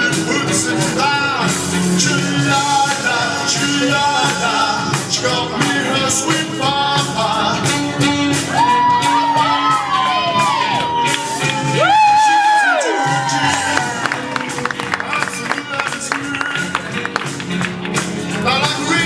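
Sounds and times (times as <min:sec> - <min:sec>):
rock and roll music with singer: 0:00.0 - 0:19.0.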